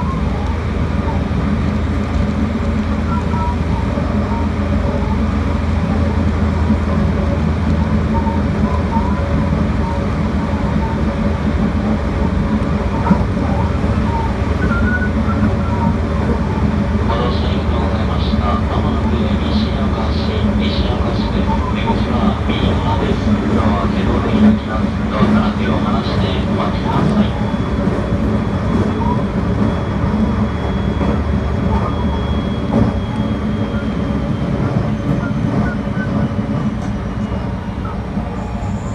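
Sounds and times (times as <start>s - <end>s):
train rumbling inside carriage: 0.0s - 38.9s.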